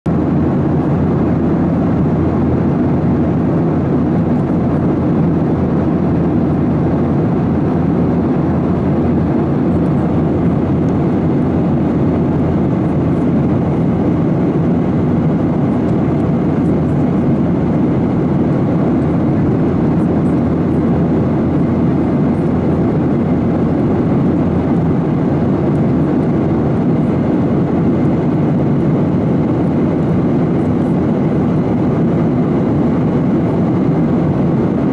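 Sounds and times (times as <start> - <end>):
jet airliner cabin noise: 0.1 - 34.9.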